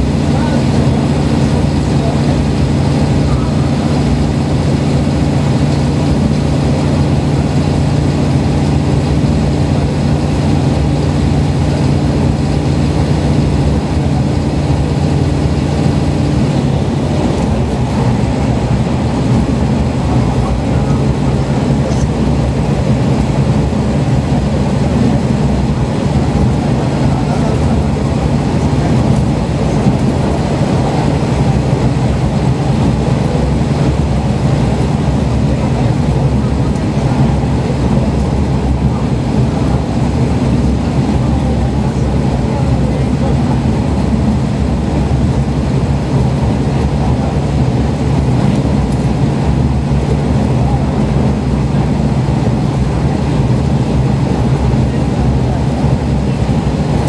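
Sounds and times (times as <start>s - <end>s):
diesel engine drone: 0.0s - 57.0s
wheels rumbling on rail: 0.0s - 57.0s.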